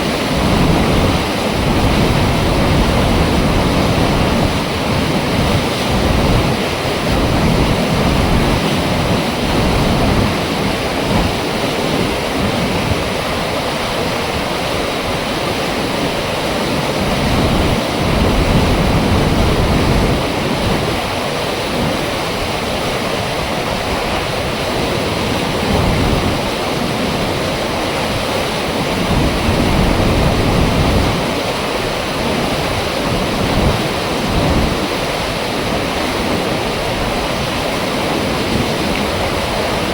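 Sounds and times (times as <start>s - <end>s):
water rushing through gate: 0.0s - 39.9s.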